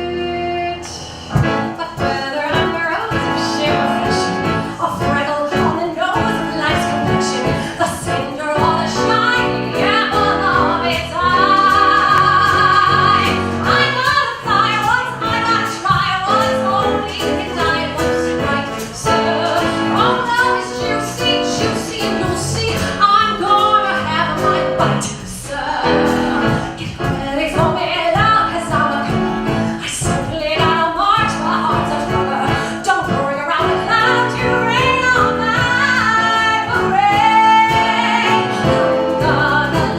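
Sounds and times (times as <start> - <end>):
instrumental accompaniment: 0.0 - 39.9
woman singing: 0.0 - 39.9.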